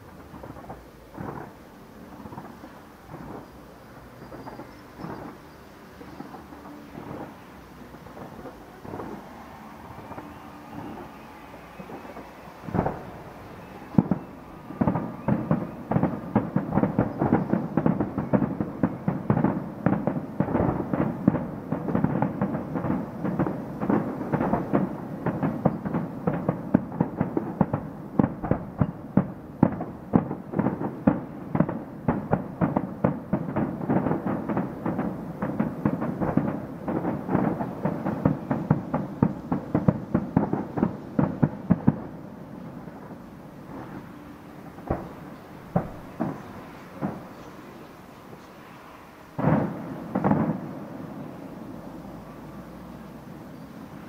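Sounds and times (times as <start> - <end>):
fireworks bangs and bursts: 0.0 - 47.9, 49.4 - 54.0.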